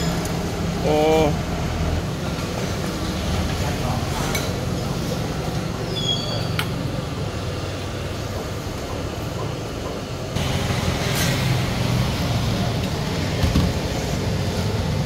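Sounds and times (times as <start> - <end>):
street background rumble: 0.0 - 15.0.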